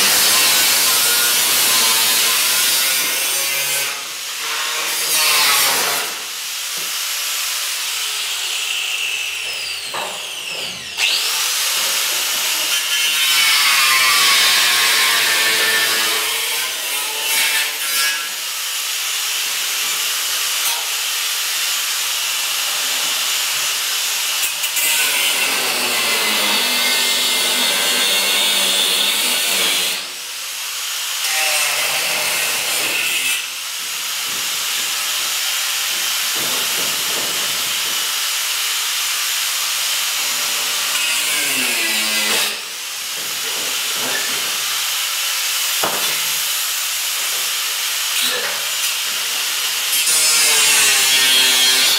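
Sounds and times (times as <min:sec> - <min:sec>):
angle grinder cutting sheet steel: 0:00.0 - 0:51.9.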